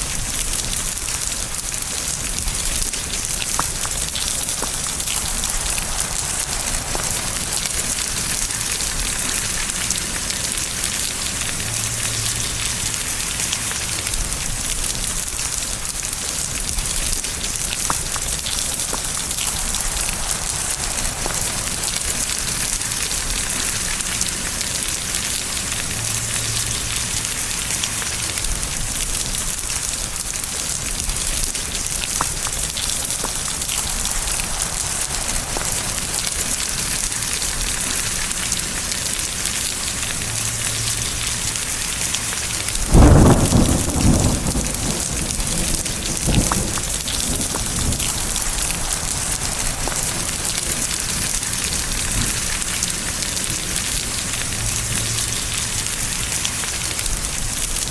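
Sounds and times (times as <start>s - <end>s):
thunderclap and rumble: 0.0s - 13.1s, 14.1s - 27.4s, 28.3s - 38.6s, 42.6s - 57.9s
steady rain falling: 0.0s - 57.9s.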